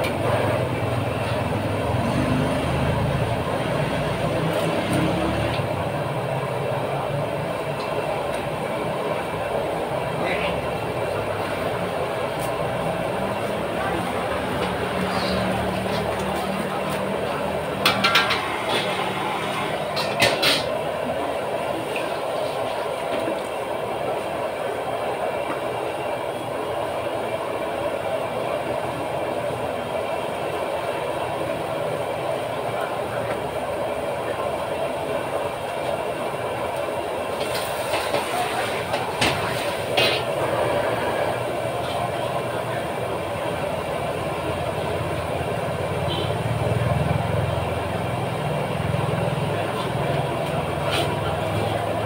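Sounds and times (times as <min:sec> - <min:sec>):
roaring hiss of wok cooking: 0:00.0 - 0:52.0.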